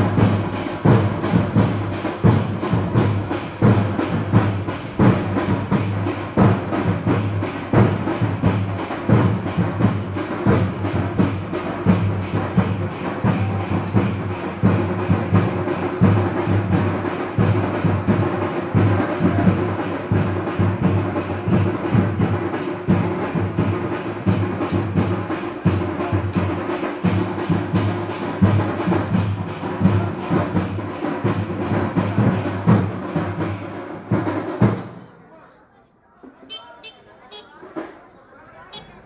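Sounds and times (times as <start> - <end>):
fast drumming: 0.0 - 35.0.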